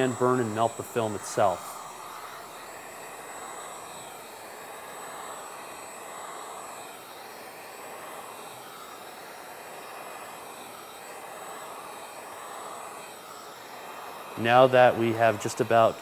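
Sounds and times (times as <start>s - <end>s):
heat gun blowing: 0.0s - 16.0s.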